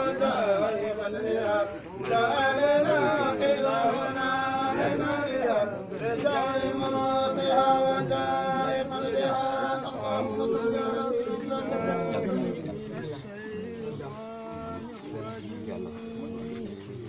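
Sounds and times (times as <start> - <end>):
men chanting together: 0.0 - 17.0.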